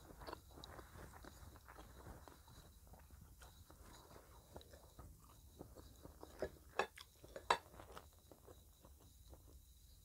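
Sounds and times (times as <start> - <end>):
close chewing and mouth clicks: 0.0 - 9.8.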